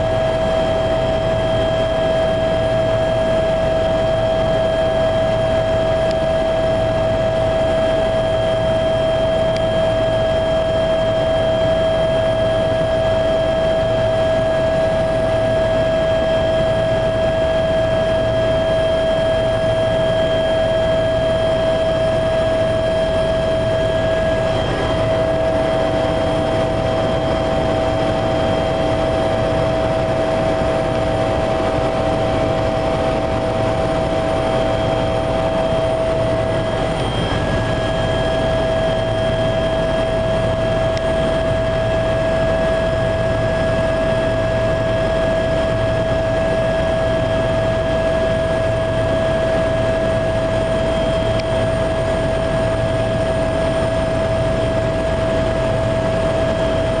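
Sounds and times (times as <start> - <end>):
helicopter cabin drone: 0.0 - 57.0
high-pitched whine: 0.0 - 57.0.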